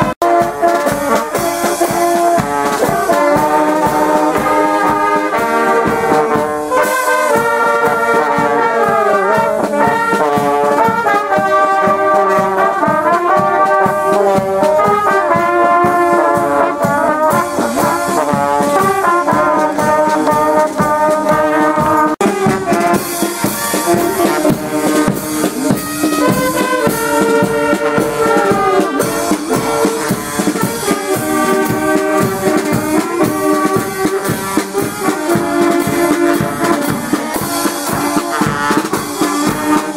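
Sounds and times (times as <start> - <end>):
brass band playing a melody: 0.0 - 39.9.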